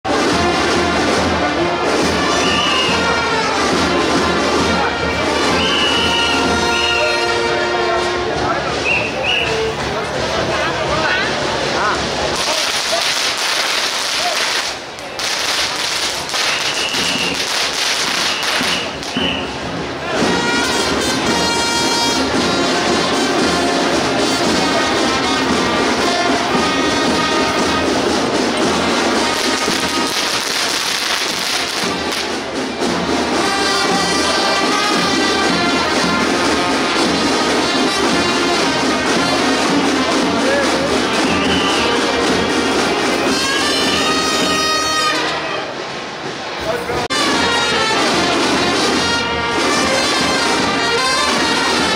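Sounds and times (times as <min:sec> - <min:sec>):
snare drums: 0:00.0 - 0:51.9
brass instruments playing a tune: 0:00.1 - 0:10.1, 0:11.7 - 0:46.0, 0:46.8 - 0:51.9.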